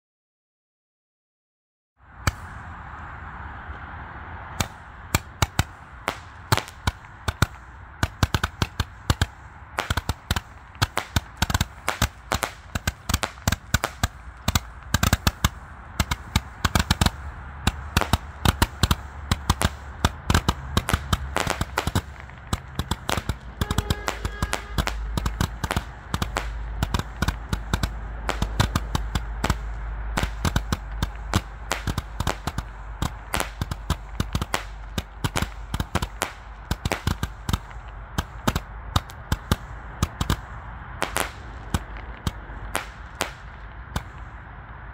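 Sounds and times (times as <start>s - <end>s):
firework hiss: 2.1s - 3.7s, 4.4s - 44.5s
roman candle shots: 4.4s - 44.4s.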